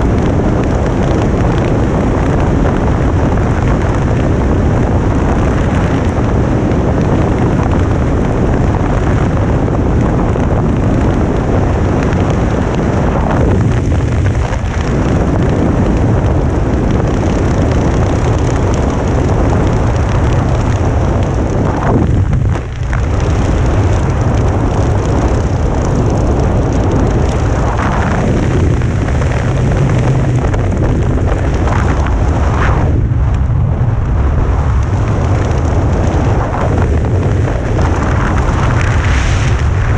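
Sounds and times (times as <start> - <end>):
wind blasting across microphone: 0.0 - 39.9.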